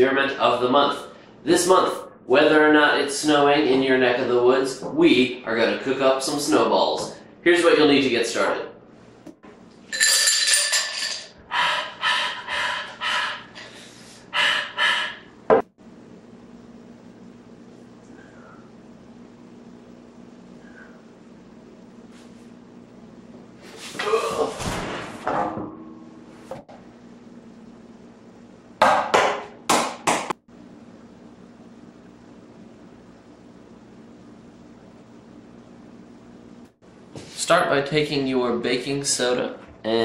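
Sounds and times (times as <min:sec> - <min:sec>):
faint room hum: 0:00.0 - 0:40.0.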